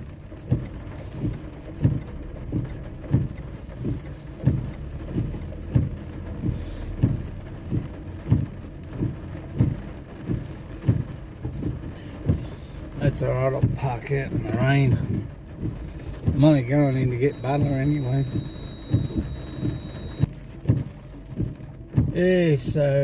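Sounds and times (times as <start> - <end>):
car engine running: 0.0 - 23.0
heavy rain on a car: 0.0 - 23.0.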